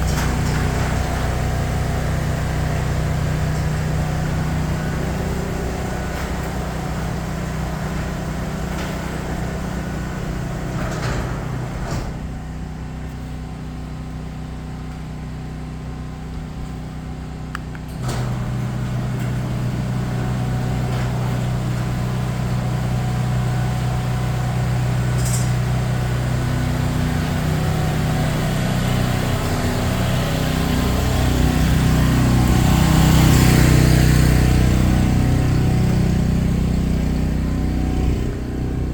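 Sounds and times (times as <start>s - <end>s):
garage door opener motor hum: 0.0s - 38.9s.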